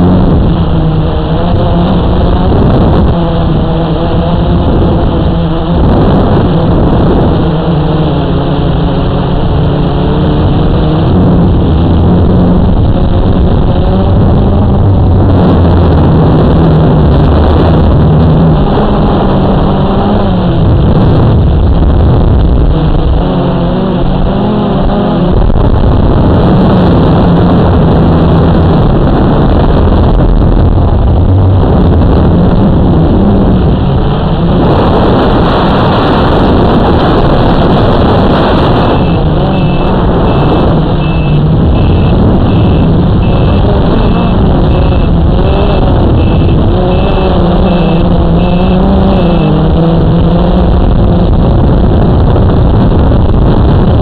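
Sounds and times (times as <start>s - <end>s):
drone motors humming: 0.0s - 54.0s.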